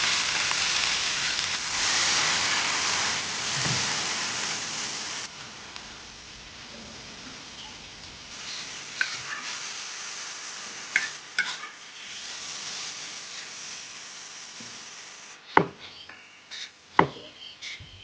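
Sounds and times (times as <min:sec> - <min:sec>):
steady cooking hiss: 0:00.0 - 0:18.0.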